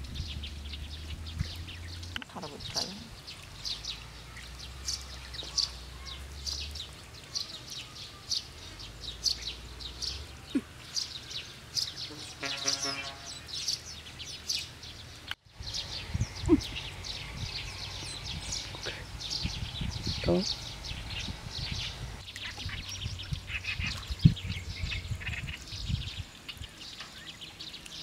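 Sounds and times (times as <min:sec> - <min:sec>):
birds chirping: 0:00.0 - 0:28.0
low buzzy bird call: 0:00.2 - 0:28.0.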